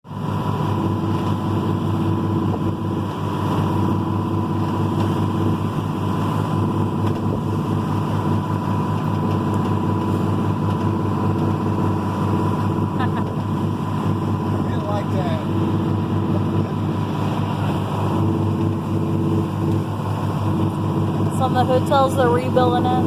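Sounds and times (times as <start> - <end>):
boat engine running: 0.1 - 23.0.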